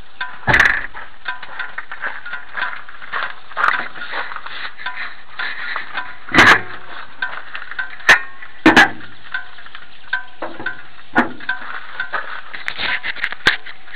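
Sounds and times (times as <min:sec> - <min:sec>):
car ventilation fan hiss: 0:00.0 - 0:13.9
sharp clicks and rattles: 0:00.0 - 0:13.9.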